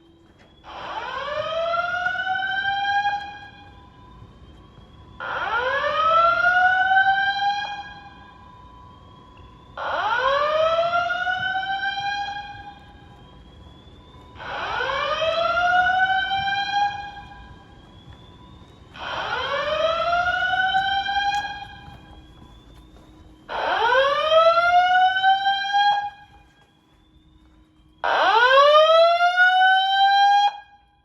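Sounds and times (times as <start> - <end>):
fire alarm whoop tone: 0.0 - 31.0.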